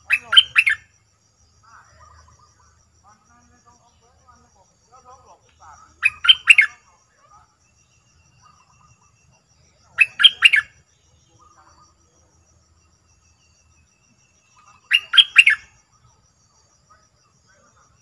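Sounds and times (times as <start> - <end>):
bulbul calling: 0.0 - 1.0, 1.6 - 12.2, 13.1 - 18.0.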